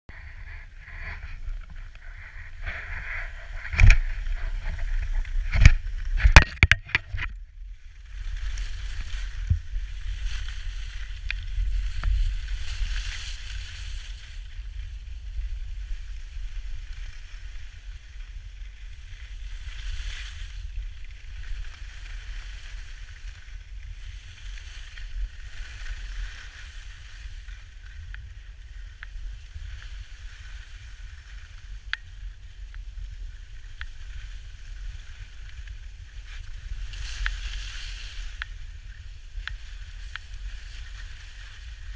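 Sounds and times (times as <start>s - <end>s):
skis hissing over snow: 0.1s - 5.2s, 8.0s - 41.9s
wind buffeting microphone: 0.1s - 41.9s.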